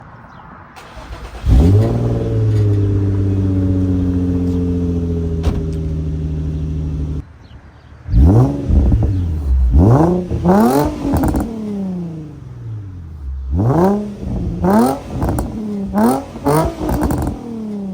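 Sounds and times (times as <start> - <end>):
car engine revving: 0.8 - 7.2, 8.1 - 17.9.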